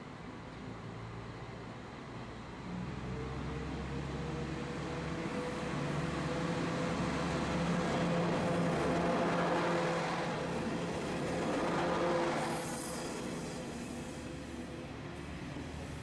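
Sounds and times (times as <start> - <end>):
diesel train passing: 0.1 - 16.0.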